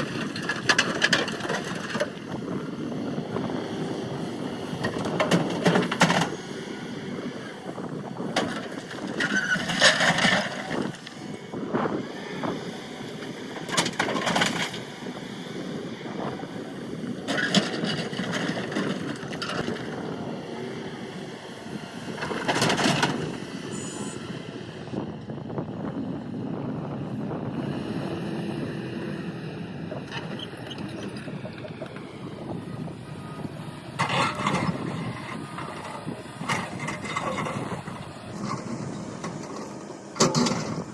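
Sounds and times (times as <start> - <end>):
excavator engine running: 0.0 - 40.9.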